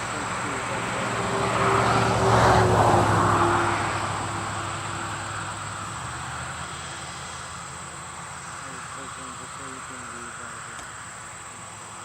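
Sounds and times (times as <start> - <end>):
crickets chirring: 0.0 - 12.0
vehicle passing by humming: 0.0 - 12.0.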